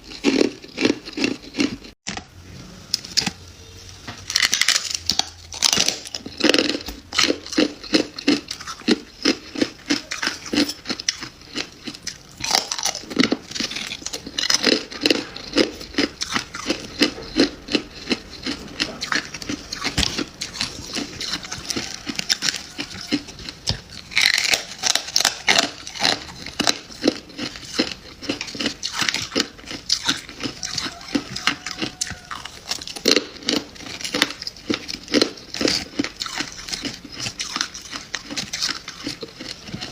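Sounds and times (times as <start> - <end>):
frost being chewed crunching: 0.0 - 2.3, 4.2 - 39.9.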